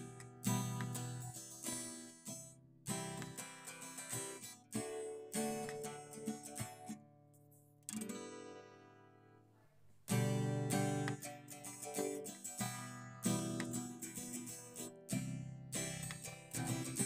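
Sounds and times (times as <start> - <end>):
acoustic guitar strumming chords: 0.0 - 9.3, 10.1 - 17.0.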